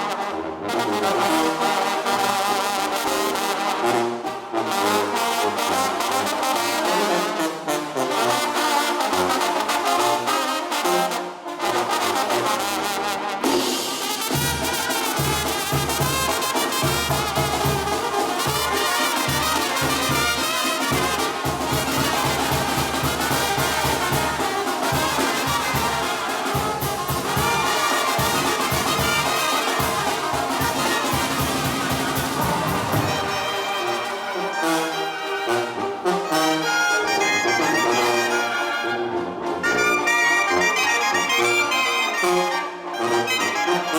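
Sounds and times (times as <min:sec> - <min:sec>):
brass band playing: 0:00.0 - 0:43.9.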